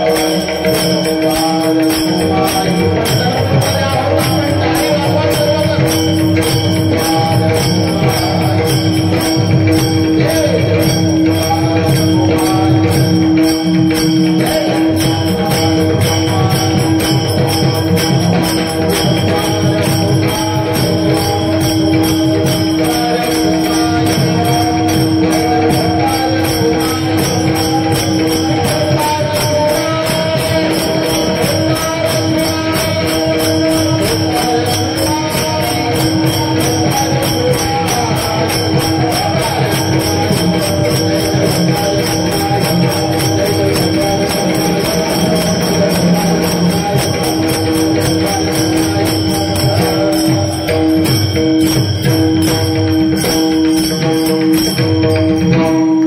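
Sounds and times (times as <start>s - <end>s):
hand cymbals jingling: 0.0s - 56.0s.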